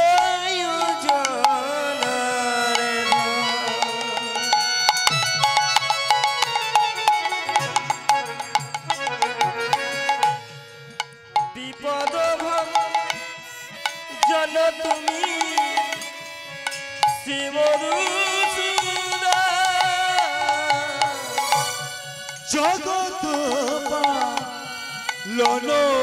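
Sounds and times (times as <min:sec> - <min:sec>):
hand drum rhythm: 0:00.0 - 0:26.0
melody with sliding notes: 0:00.0 - 0:26.0.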